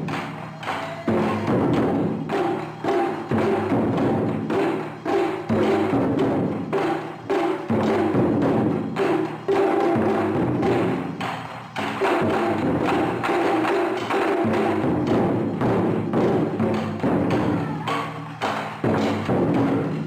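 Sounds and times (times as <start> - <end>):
taiko drums booming: 0.0 - 20.0.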